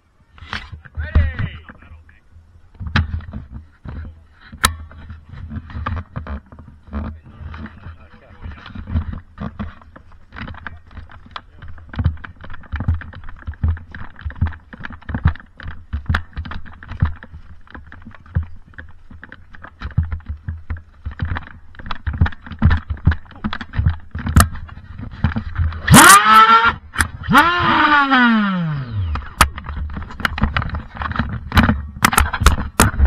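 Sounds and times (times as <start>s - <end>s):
knocks thumps and clicks: 0.4s - 2.0s, 2.7s - 33.0s.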